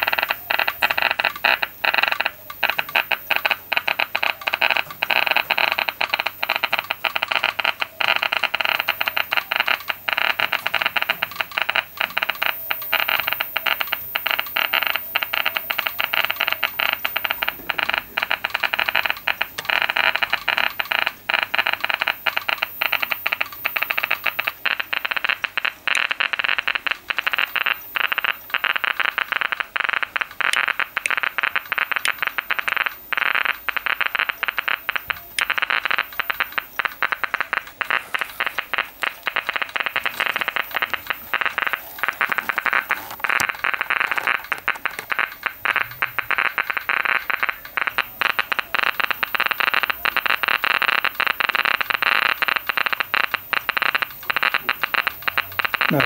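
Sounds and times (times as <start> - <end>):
geiger counter clicking: 0.0 - 56.0.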